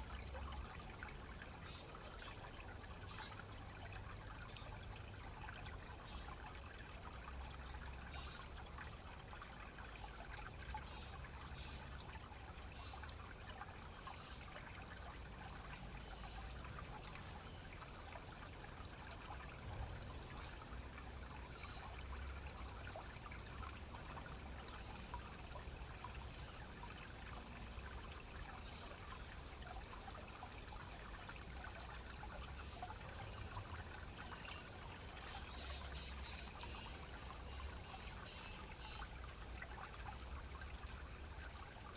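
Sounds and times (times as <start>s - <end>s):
stream trickling over stones: 0.0s - 41.9s.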